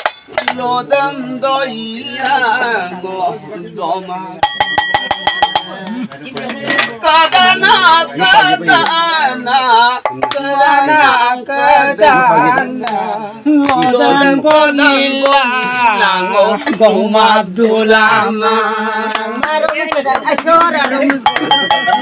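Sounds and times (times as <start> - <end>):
man singing folk song: 0.3 - 4.4, 6.4 - 22.0.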